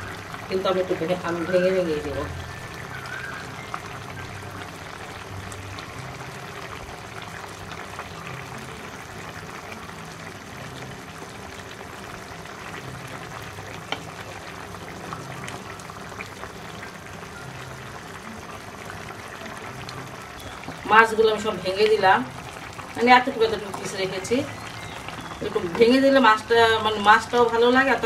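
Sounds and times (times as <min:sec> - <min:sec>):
curry simmering and bubbling: 0:00.0 - 0:28.0.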